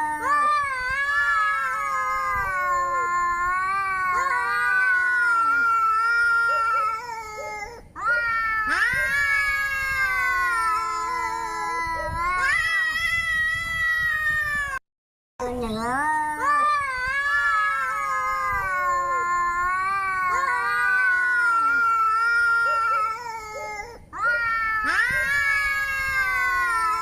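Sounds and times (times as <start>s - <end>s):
angry cat yowling: 0.0s - 14.8s, 16.4s - 27.0s.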